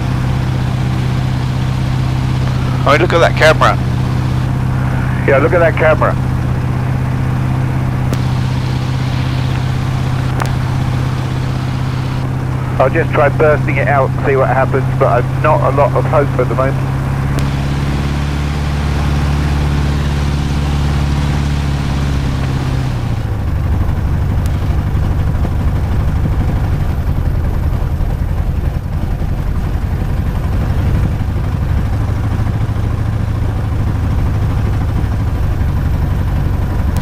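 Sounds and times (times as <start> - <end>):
aircraft piston engine running: 0.0 - 37.0.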